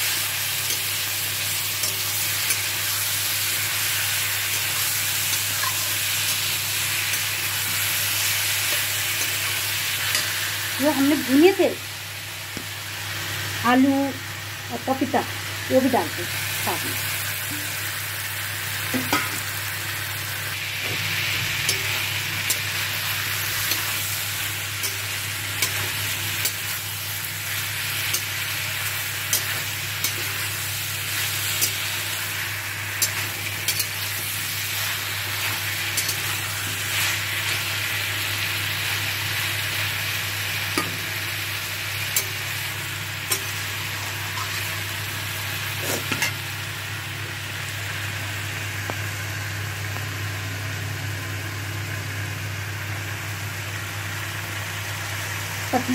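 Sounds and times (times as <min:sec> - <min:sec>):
food sizzling in oil: 0:00.0 - 0:55.9.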